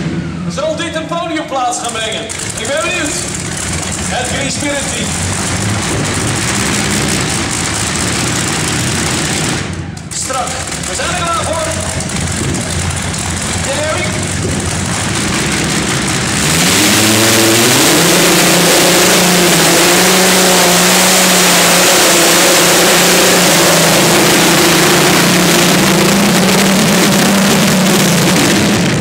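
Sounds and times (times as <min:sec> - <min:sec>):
tractor engine revving: 0:00.0 - 0:29.0.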